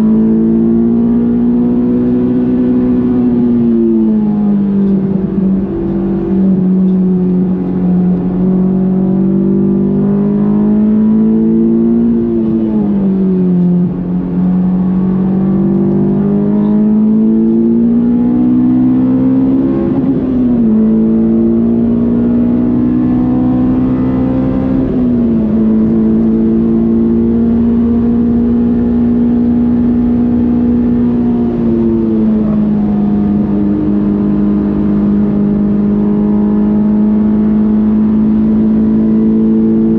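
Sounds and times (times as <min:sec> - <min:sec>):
car engine under hard driving: 0:00.0 - 0:39.9.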